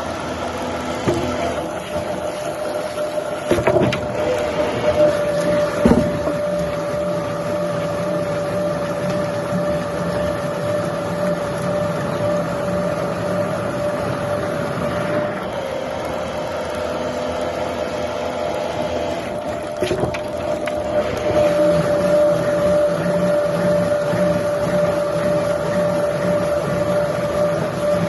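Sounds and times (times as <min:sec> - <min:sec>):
sawmill machinery whine and hum: 0:00.0 - 0:28.0.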